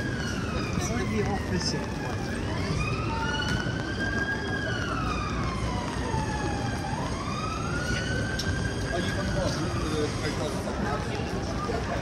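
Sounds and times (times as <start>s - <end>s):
city street noise: 0.0s - 12.0s
emergency vehicle siren wailing: 0.0s - 12.0s.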